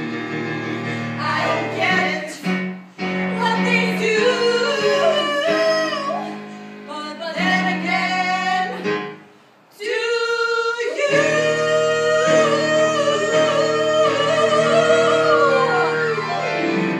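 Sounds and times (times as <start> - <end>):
song with singing and instruments: 0.0 - 16.9.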